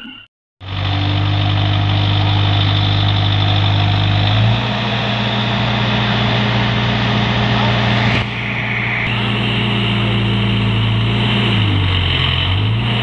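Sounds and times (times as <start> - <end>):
diesel engine running: 0.6 - 13.0.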